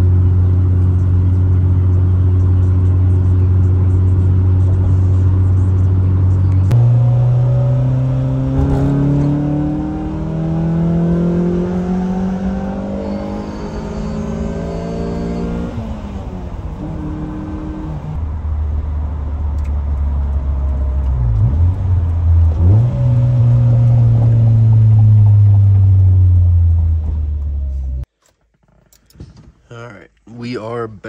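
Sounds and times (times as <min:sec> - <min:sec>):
car engine from inside cabin: 0:00.0 - 0:29.0.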